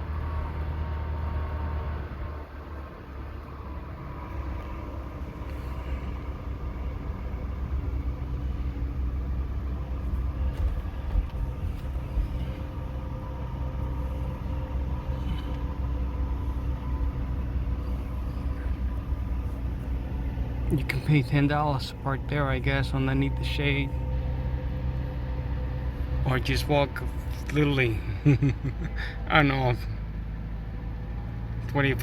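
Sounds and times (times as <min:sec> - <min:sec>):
pickup engine hum: 0:00.0 - 0:32.0
road and tyre noise: 0:00.0 - 0:32.0.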